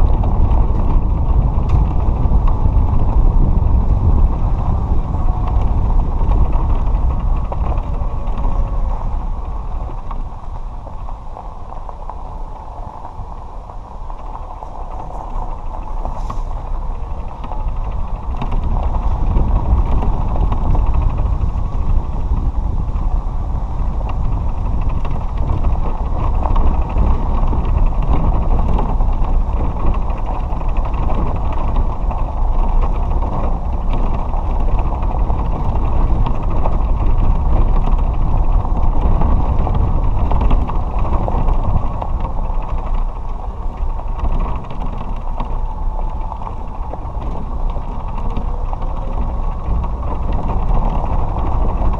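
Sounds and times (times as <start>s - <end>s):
cart tyres rumbling on gravel: 0.0s - 51.9s.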